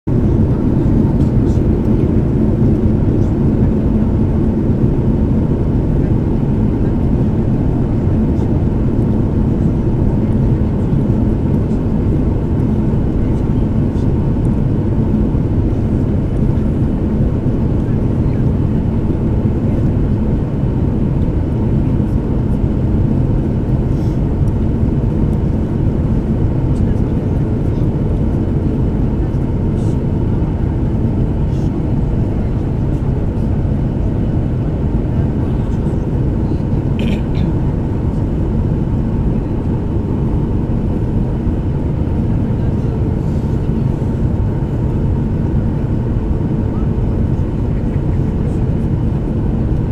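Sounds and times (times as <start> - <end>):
jet engines rumbling: 0.1 - 49.9.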